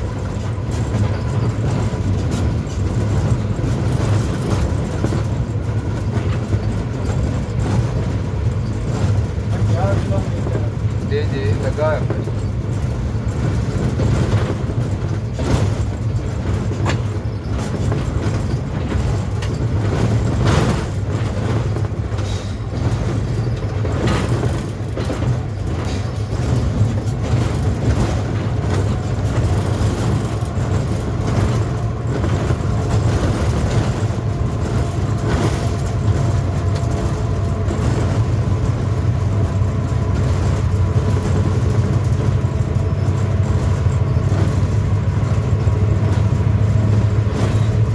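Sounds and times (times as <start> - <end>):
train rumble: 0.0 - 47.9
wheels clacking over rail joints: 0.0 - 47.9.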